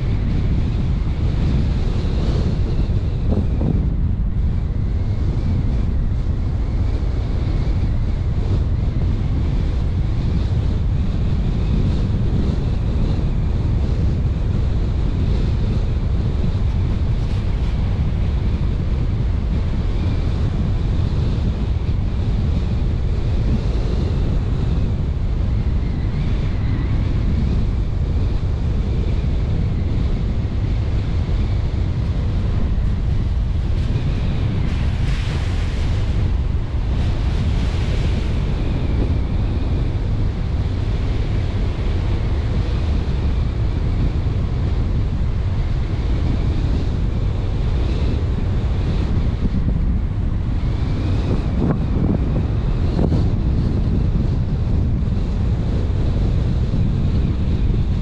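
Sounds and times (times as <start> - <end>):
car driving on road: 0.0 - 58.0
wind on microphone: 0.0 - 58.0.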